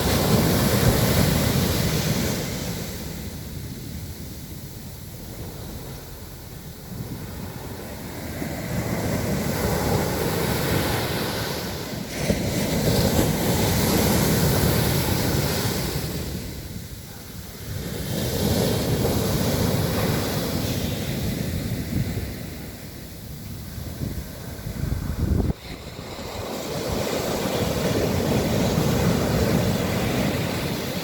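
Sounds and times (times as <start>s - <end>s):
sea waves breaking on beach: 0.0s - 31.0s.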